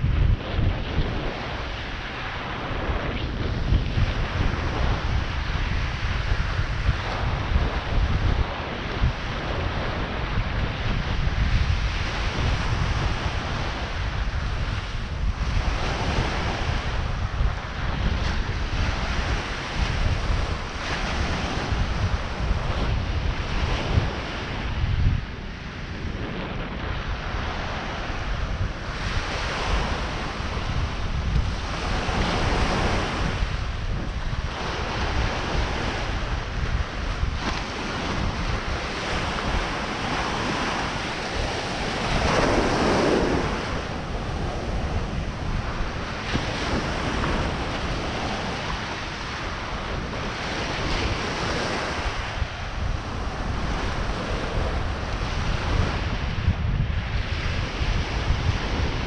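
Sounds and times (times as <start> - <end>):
ocean surf washing: 0.0 - 59.0
wind rumbling on microphone: 0.0 - 59.0.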